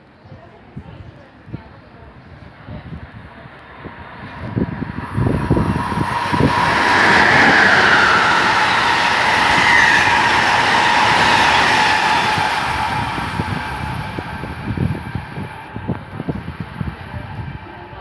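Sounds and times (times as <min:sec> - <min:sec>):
electric train passing: 0:01.8 - 0:18.0.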